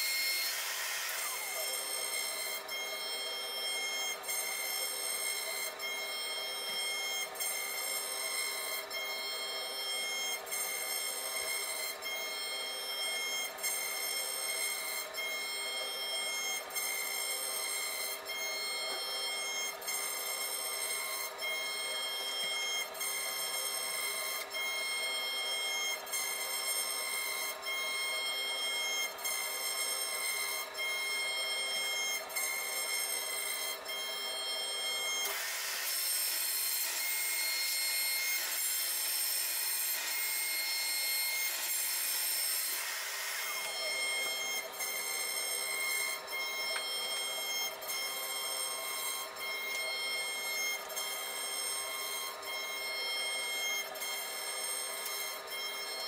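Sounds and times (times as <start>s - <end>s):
router spindle whining: 0.0s - 56.0s.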